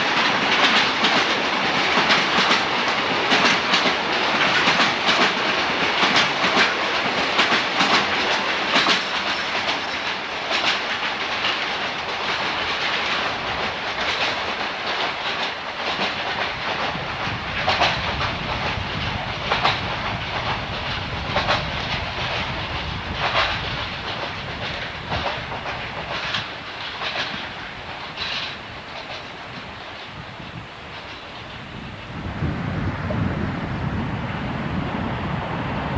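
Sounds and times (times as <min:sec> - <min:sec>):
train wheels clattering over joints: 0:00.0 - 0:32.2
train rolling rumble: 0:00.0 - 0:35.9.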